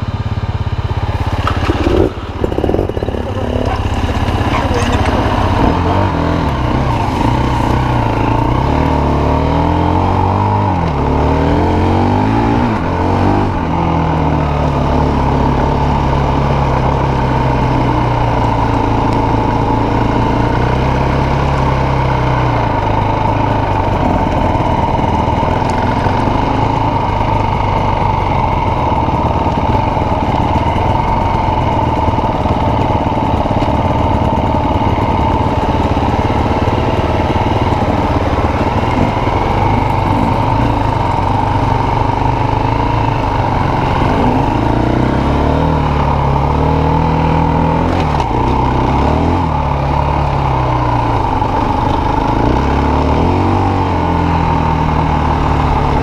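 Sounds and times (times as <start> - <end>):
constant high whine: 0.0 - 56.0
dirt bike engine revving: 0.8 - 56.0.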